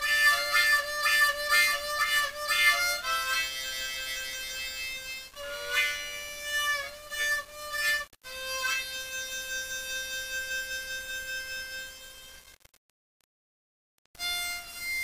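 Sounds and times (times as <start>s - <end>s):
blues harmonica: 0.0s - 12.6s, 14.2s - 15.0s.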